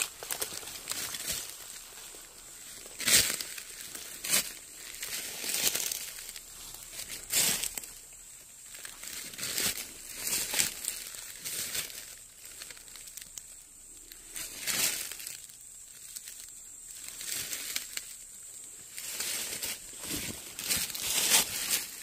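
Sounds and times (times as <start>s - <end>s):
dry leaves crunching underfoot: 0.0s - 22.0s.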